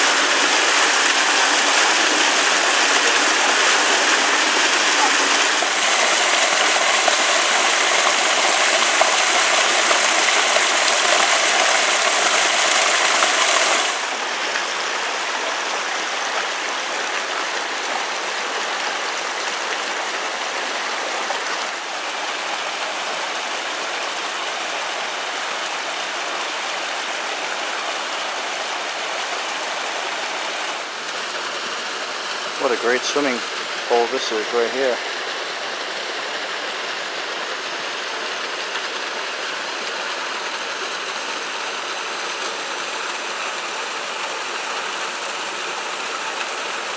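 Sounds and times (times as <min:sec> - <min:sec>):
stream water rushing over cascade: 0:00.0 - 0:46.9.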